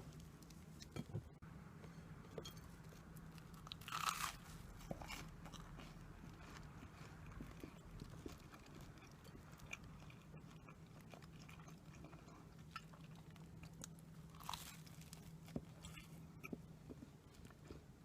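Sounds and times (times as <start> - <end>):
steady low hum: 0.0 - 18.0
chewing and crunching sweets: 2.8 - 18.0.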